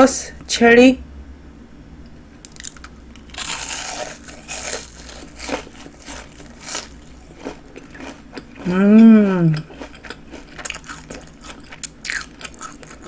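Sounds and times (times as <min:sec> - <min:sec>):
crunching of fried prawn chewed: 0:02.5 - 0:13.0.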